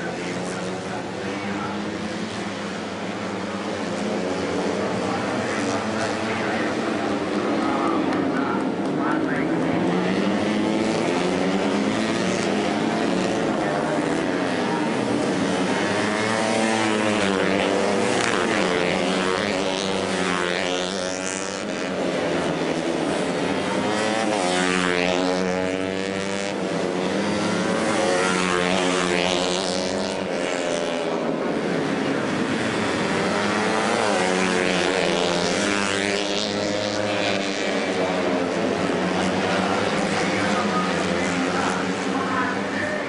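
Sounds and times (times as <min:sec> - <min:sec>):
racing motorcycle engines revving: 0:00.0 - 0:43.0.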